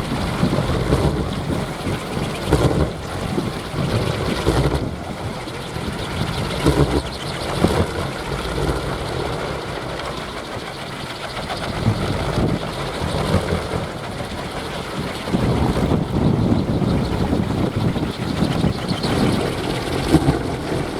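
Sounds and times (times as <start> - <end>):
strong wind: 0.0 - 20.9
wind propellers whirring: 0.0 - 20.9.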